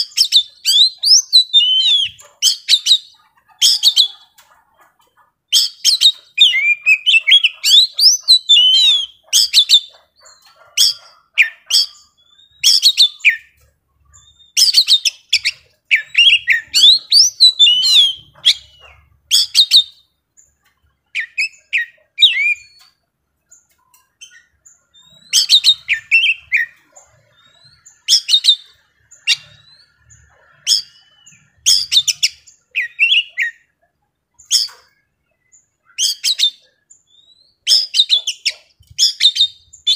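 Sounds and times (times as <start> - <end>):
bird singing with clicks and whistles: 0.0 - 39.9.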